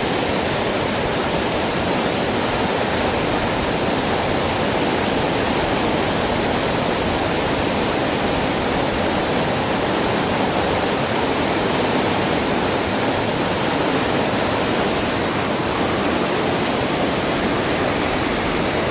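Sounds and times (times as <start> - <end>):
river water rushing: 0.0 - 18.9.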